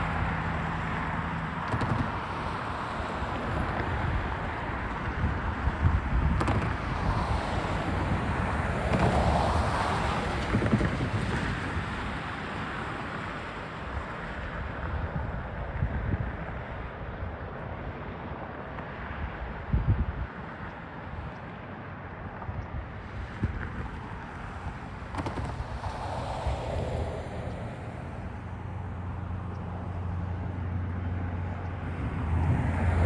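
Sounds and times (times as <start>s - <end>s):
wind buffeting microphone: 1.8s - 18.5s, 19.1s - 33.0s.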